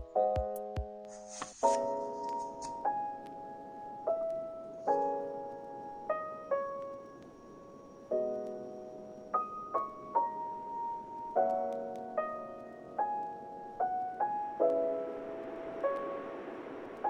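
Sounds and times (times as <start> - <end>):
soft slow piano music: 0.0 - 17.0.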